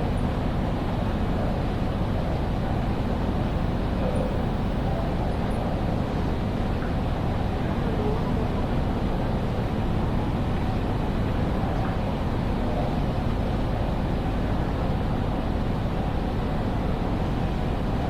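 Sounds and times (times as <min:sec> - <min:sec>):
railway station hall rumble: 0:00.0 - 0:18.0.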